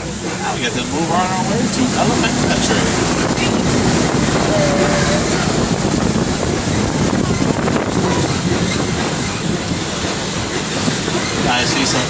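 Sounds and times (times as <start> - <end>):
truck rumbling on dirt track: 0.0 - 12.0.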